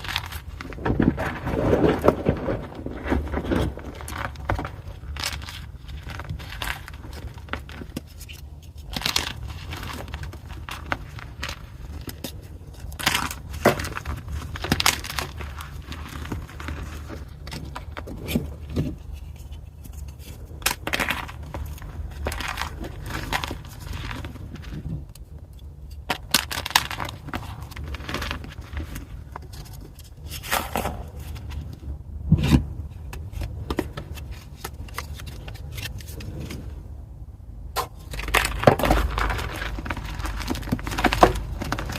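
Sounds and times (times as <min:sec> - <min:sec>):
chalk being crushed: 0:00.0 - 0:31.7, 0:37.8 - 0:41.9
steady low hum: 0:00.0 - 0:41.9.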